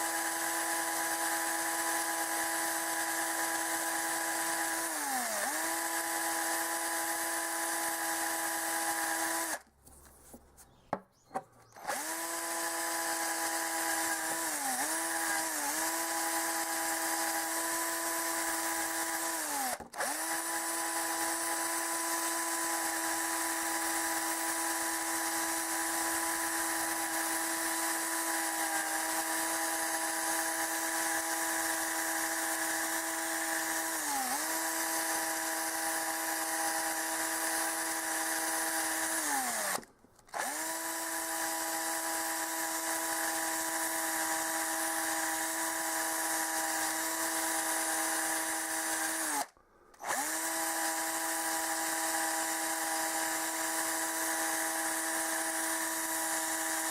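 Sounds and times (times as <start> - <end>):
small electric power tool running: 0.0 - 9.6, 11.6 - 56.9.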